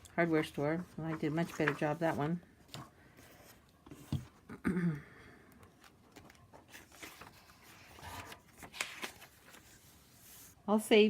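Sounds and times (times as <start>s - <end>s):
paper rustling: 0.0s - 4.4s, 5.7s - 10.6s.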